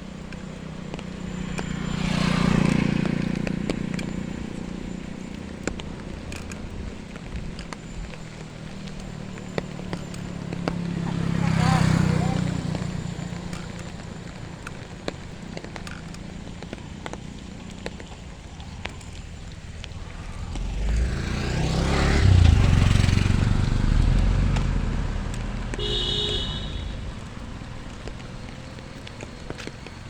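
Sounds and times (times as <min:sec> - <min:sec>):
vehicle passing by: 0:00.9 - 0:06.5, 0:07.1 - 0:17.8, 0:18.4 - 0:30.0.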